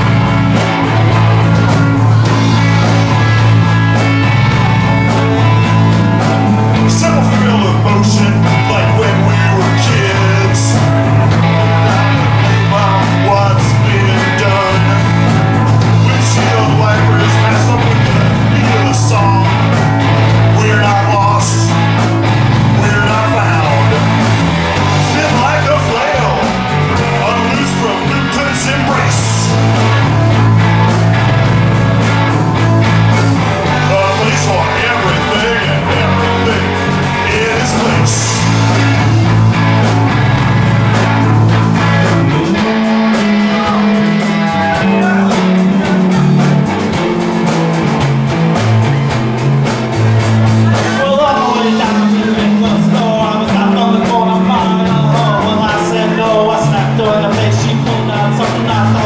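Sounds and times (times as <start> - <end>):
bass line: 0.0 - 59.0
drum beat: 0.0 - 59.0
live rock band playing: 0.0 - 59.0.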